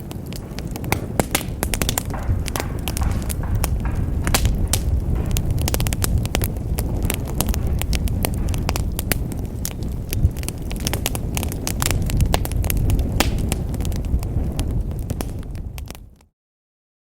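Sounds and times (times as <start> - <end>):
wood fire crackling and popping: 0.0 - 16.2
low rumble of flames: 0.0 - 16.3.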